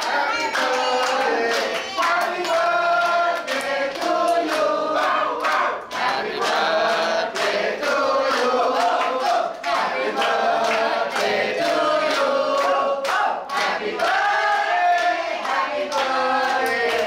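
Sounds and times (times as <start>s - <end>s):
group singing a birthday song: 0.0s - 17.0s
people clapping in time: 0.0s - 17.0s.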